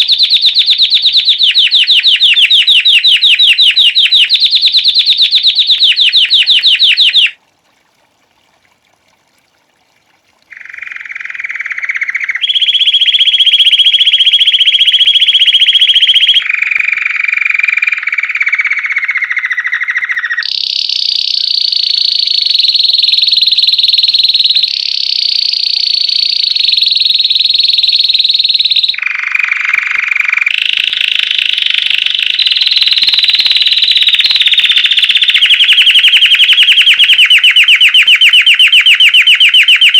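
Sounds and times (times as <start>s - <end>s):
canary singing trills: 0.0s - 7.4s, 10.5s - 39.9s.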